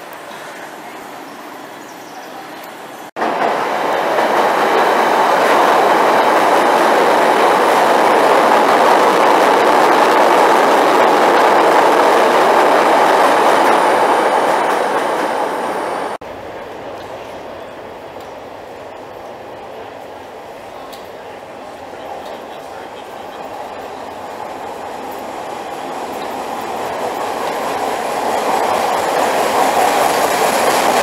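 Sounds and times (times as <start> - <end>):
train wheels on elevated rails: 0.0 - 31.0.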